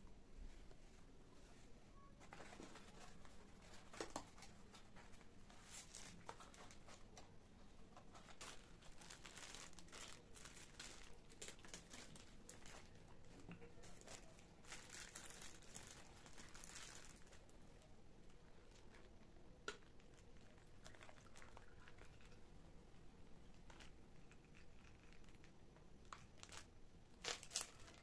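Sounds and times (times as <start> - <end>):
plastic bags rustling: 2.2 - 7.3, 8.0 - 22.4, 23.4 - 28.0.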